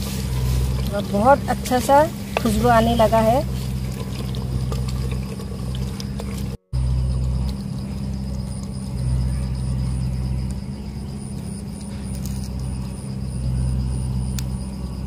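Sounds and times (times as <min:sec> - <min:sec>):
low mechanical rumble and hum: 0:00.0 - 0:15.0.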